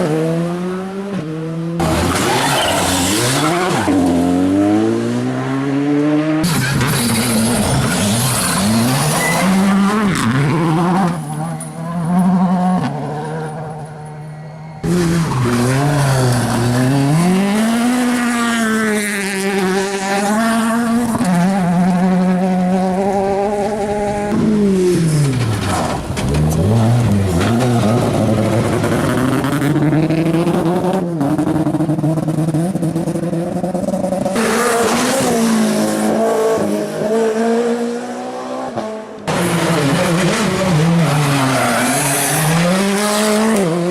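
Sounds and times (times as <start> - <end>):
rally car engine revving: 0.0 - 14.0, 14.8 - 43.9.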